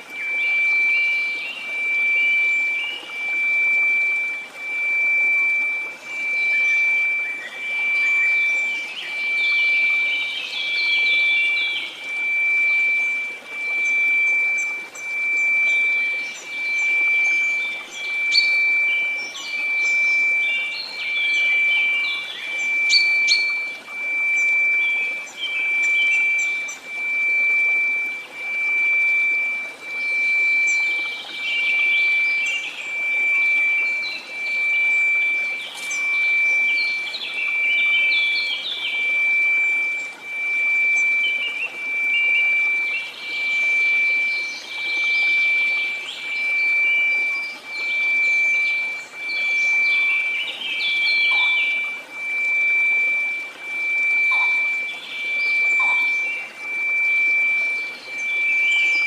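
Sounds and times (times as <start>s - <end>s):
pulsing sine tone: 0.0s - 59.0s
bird chirps and twitters: 0.2s - 59.0s.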